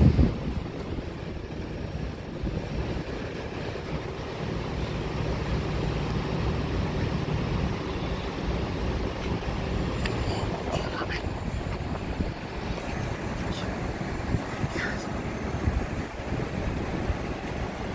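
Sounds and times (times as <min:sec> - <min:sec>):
subway train rumbling on steel tracks: 0:00.0 - 0:17.9.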